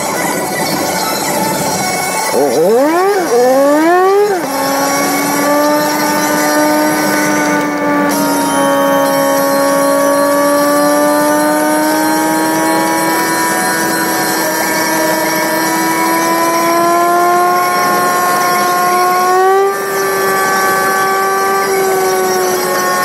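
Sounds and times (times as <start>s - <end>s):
sped-up engine whine: 0.0s - 23.0s.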